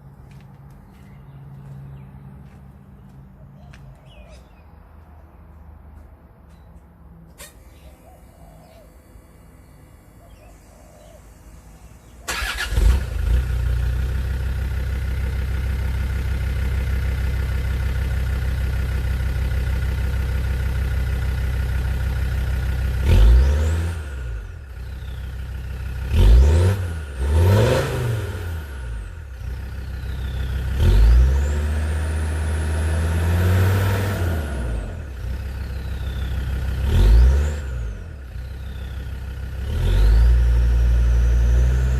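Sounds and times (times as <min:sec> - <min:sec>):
diesel engine idling and revving: 0:07.2 - 0:41.9.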